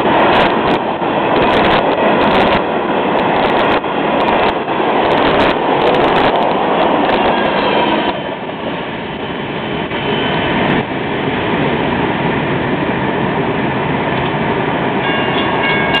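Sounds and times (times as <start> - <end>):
train wheels rolling on track: 0.0 - 16.0.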